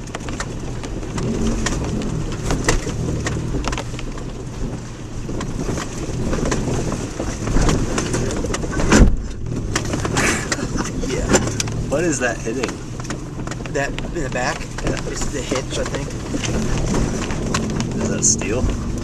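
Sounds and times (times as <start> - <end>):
body and suspension rattles: 0.0 - 19.0
car driving on rough road: 0.0 - 19.0
heavy thump underneath car: 1.0 - 19.0.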